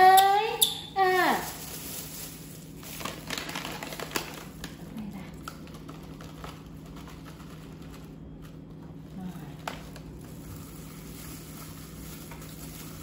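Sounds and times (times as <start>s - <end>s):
plastic pouch crinkling: 1.2s - 8.7s, 9.8s - 13.0s.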